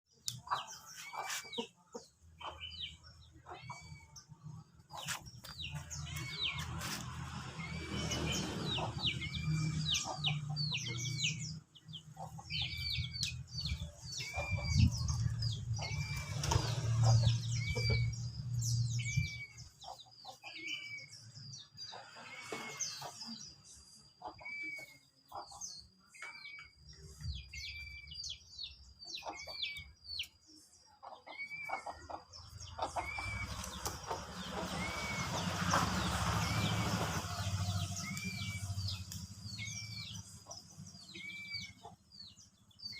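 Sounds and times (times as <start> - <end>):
small birds chirping: 0.1 - 42.9.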